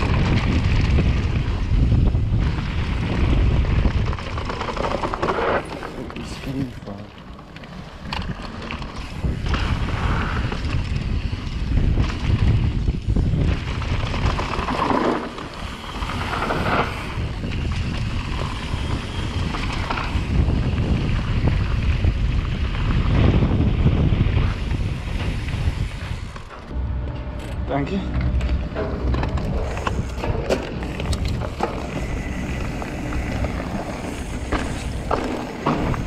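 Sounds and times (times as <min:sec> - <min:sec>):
wind buffeting microphone: 0:00.0 - 0:05.3, 0:08.0 - 0:36.0
bike tyres rumbling on rough ground: 0:00.0 - 0:36.0.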